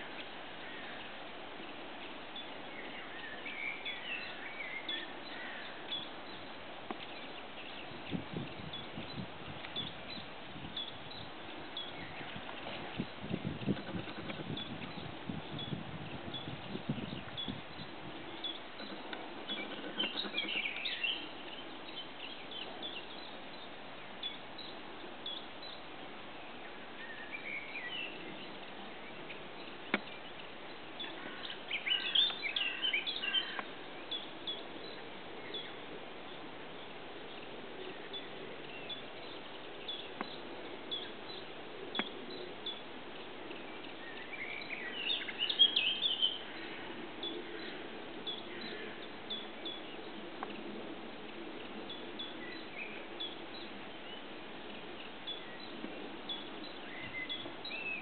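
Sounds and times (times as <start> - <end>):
small birds warbling: 0.0 - 58.0
steady background hiss: 0.0 - 58.0.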